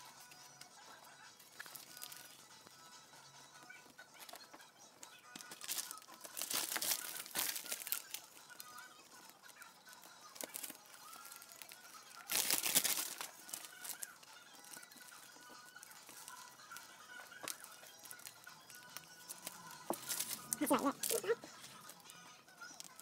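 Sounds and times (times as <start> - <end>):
plastic film crinkling: 1.5 - 2.4, 3.8 - 23.0.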